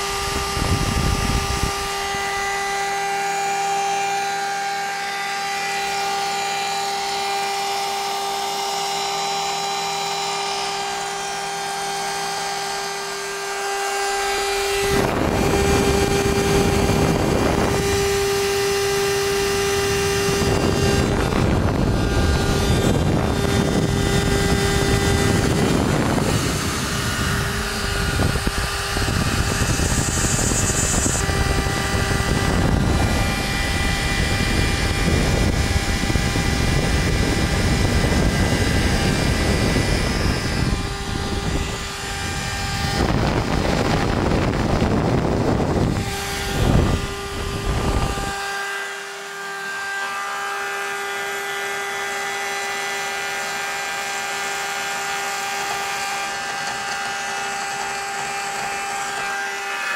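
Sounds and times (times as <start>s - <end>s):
router spindle whine: 0.0s - 59.9s
tool cutting plastic: 0.0s - 59.9s.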